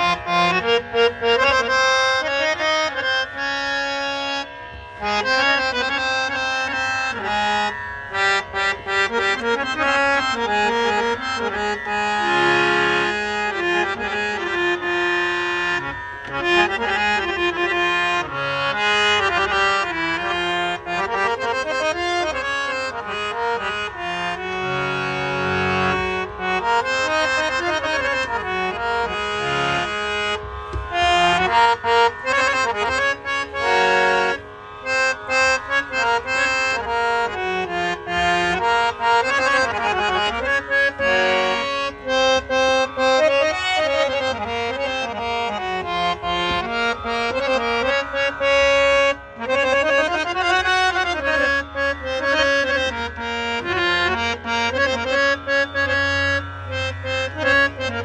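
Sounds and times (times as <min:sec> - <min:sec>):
harmonium melody: 0:00.0 - 0:58.0.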